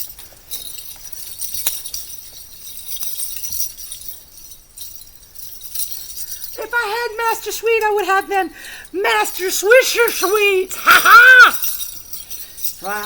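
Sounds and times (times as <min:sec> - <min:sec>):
metallic jingling and clinking: 0:00.0 - 0:13.0.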